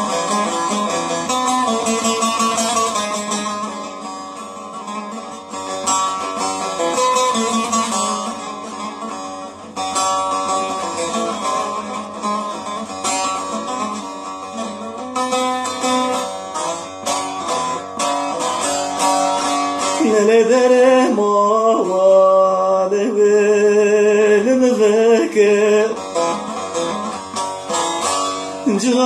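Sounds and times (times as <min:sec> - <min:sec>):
plucked string instrument melody: 0:00.0 - 0:29.0.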